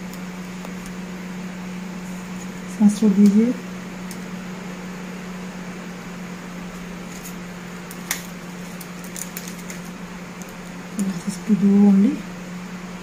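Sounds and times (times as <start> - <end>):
room equipment hum: 0.0 - 13.0.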